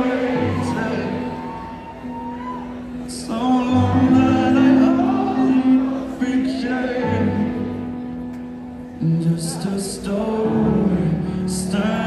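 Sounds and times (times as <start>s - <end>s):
man singing: 0.0s - 1.8s, 3.0s - 8.0s, 9.0s - 12.0s.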